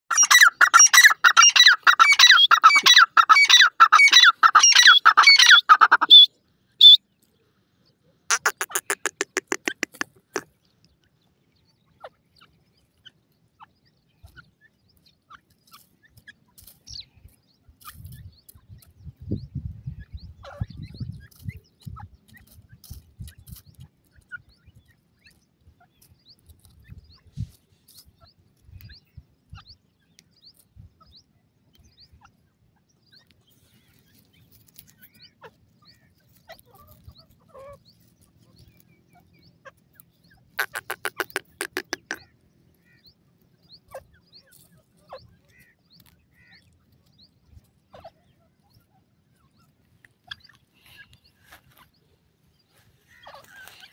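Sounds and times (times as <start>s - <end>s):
birds clucking and chirping: 0.1s - 53.9s.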